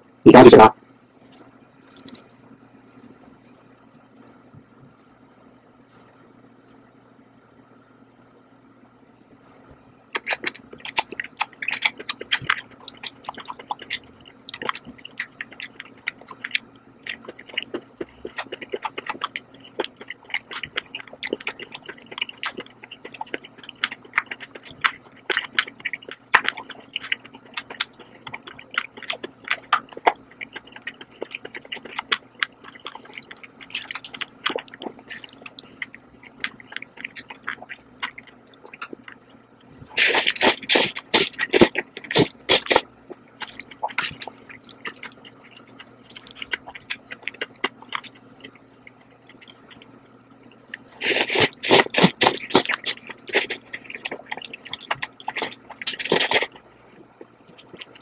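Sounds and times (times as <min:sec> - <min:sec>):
faint steady hum: 0:00.0 - 0:58.0
wet chewing clicks and squishes: 0:10.1 - 0:58.0.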